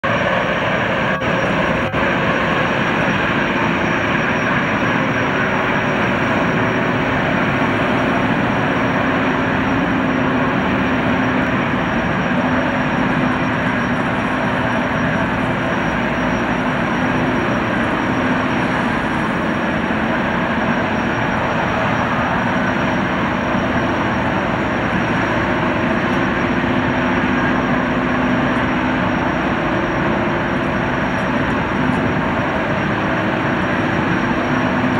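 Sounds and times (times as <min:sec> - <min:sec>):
hydrofoil turbines rushing: 0:00.0 - 0:34.9
thin high whine: 0:00.0 - 0:34.9.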